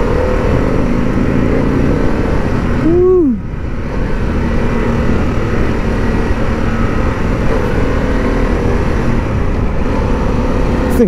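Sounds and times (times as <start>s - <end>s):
motorcycle engine at speed: 0.0s - 11.0s
wind rush on microphone: 0.0s - 11.0s.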